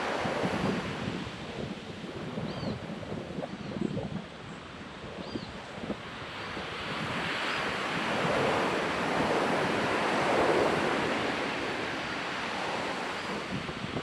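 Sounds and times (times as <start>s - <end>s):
ocean waves breaking on sand: 0.0s - 3.3s, 5.6s - 14.0s
wind buffeting microphone: 0.0s - 14.0s.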